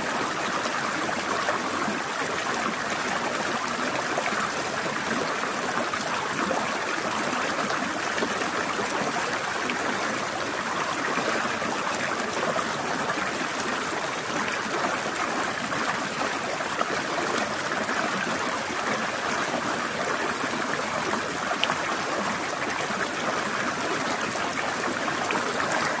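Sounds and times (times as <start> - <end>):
stream splashing over rocks: 0.0 - 26.0.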